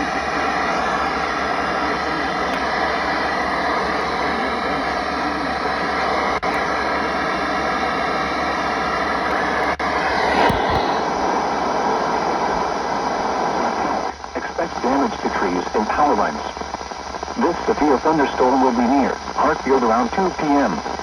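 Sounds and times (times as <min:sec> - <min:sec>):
radio static hiss and hum: 0:00.0 - 0:21.0.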